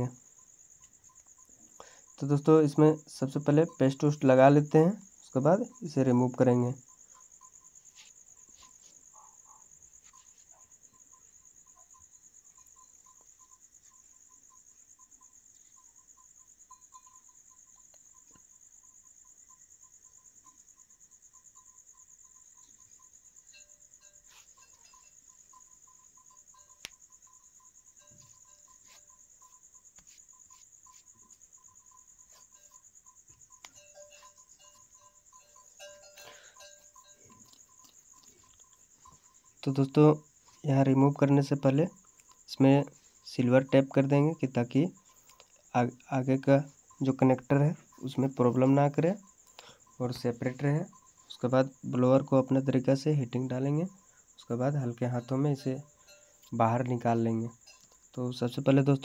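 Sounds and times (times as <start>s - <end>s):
high-pitched cricket trill: 0.0s - 59.0s.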